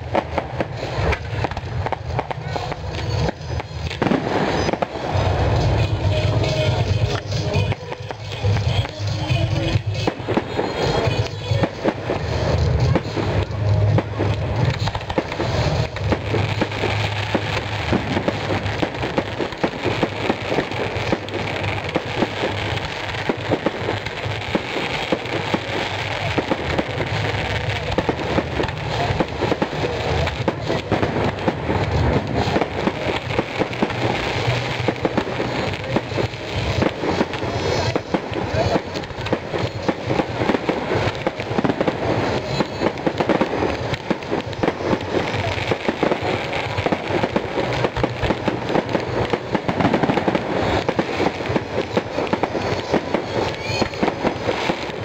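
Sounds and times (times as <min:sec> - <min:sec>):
fireworks cracking and banging: 0:00.0 - 0:55.0.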